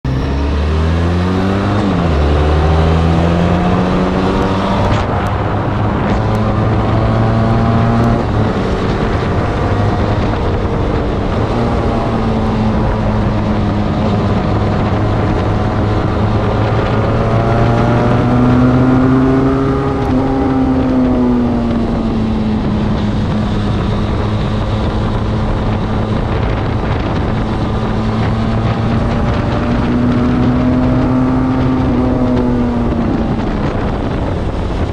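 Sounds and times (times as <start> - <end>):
motorcycle engine accelerating: 0.0 - 34.9
wind rush: 0.1 - 34.9.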